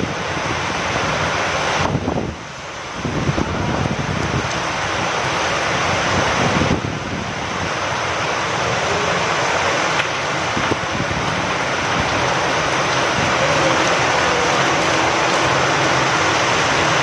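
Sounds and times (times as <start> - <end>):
rain falling with wind: 0.0 - 17.0.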